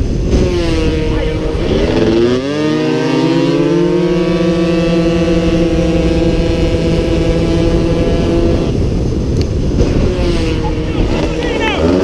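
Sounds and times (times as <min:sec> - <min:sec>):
motorcycle engine at full throttle: 0:00.0 - 0:12.0
road rumble: 0:00.0 - 0:12.0
wind: 0:00.0 - 0:12.0.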